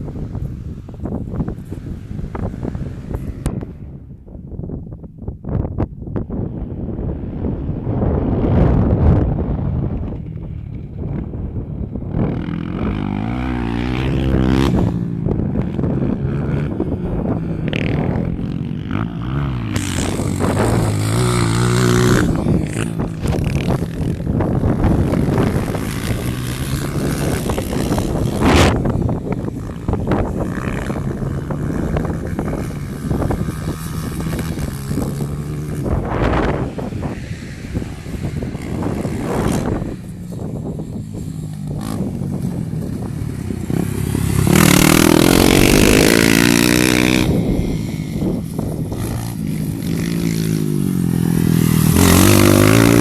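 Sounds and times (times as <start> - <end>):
dirt bike engines revving: 0.0 - 3.9, 8.0 - 53.0
wind rushing over microphone: 0.0 - 53.0.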